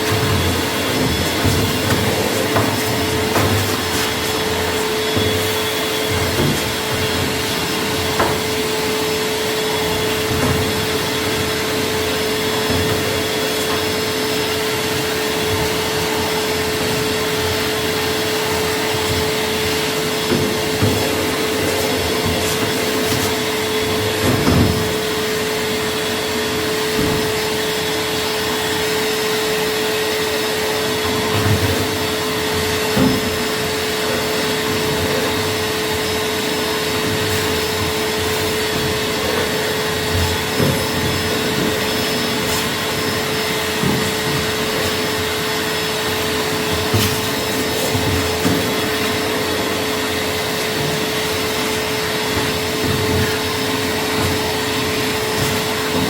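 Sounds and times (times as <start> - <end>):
machine air rush and hum: 0.0 - 56.0.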